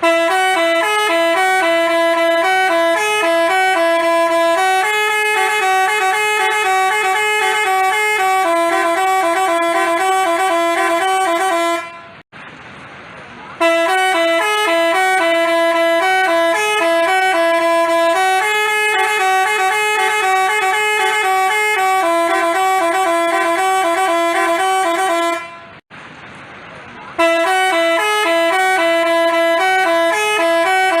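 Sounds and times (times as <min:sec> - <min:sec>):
multi-tone bus horn melody: 0:00.0 - 0:12.3, 0:13.6 - 0:25.8, 0:27.2 - 0:31.0.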